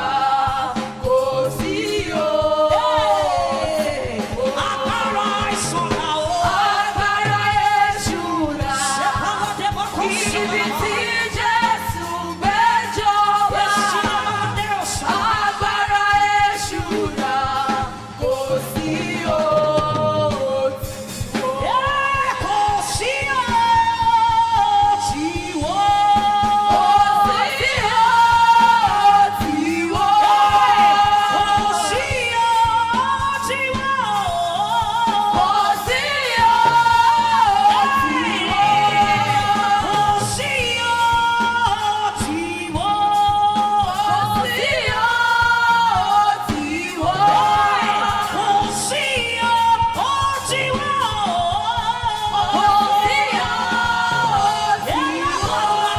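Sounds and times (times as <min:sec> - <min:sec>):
instrumental accompaniment: 0:00.0 - 0:55.9.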